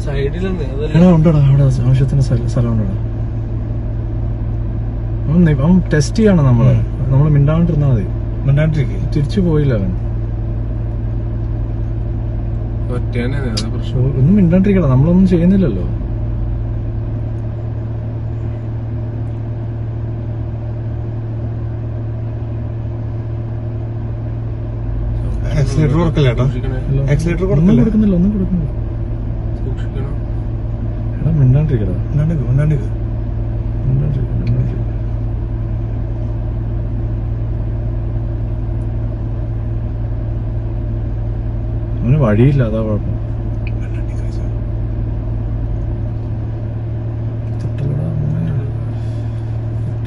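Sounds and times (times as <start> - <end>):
vehicle engine idling: 0.0 - 50.0.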